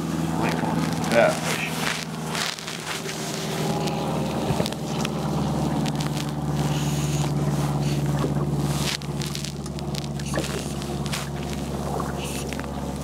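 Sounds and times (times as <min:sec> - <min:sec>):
low hum: 0:00.0 - 0:13.0
water slapping around boat: 0:00.0 - 0:13.0
wind: 0:00.0 - 0:13.0.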